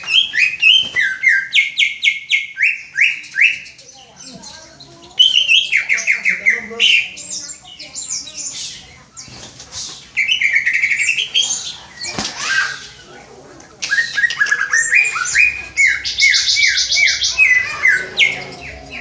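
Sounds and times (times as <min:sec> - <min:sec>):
bird singing with buzzy trills: 0:00.0 - 0:13.1, 0:13.8 - 0:19.0.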